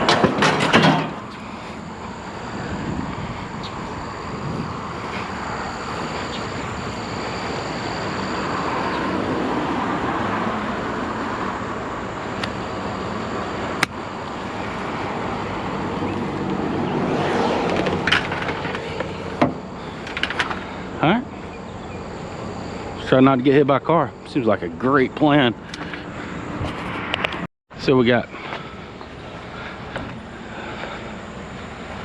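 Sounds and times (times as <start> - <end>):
road and engine noise: 0.0 - 32.0.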